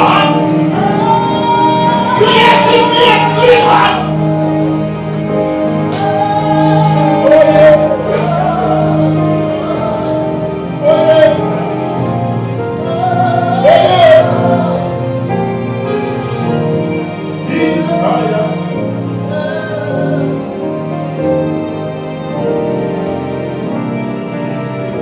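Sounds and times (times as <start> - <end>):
person singing: 0.0 - 16.6, 17.3 - 21.1
keyboard chords: 0.0 - 25.0.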